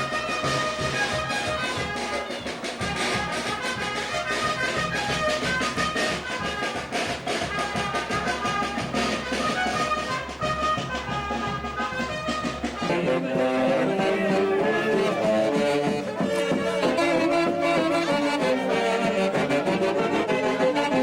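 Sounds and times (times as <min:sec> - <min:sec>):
brass band playing: 0:00.0 - 0:21.0
steady drumbeat: 0:00.0 - 0:21.0.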